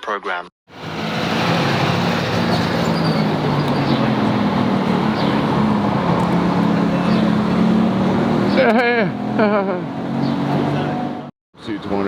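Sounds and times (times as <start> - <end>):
road noise: 0.7 - 12.0
vehicle engine humming nearby: 0.7 - 12.0.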